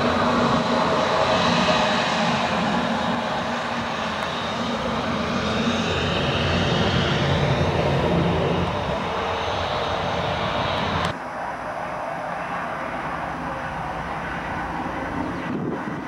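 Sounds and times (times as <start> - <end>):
aircraft engine noise: 0.0 - 16.0
high-pitched engine whine: 0.0 - 16.0.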